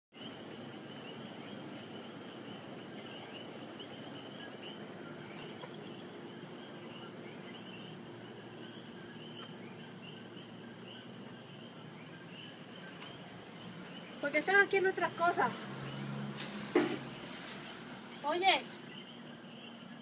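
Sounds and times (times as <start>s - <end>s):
insects chirping: 0.2s - 20.0s.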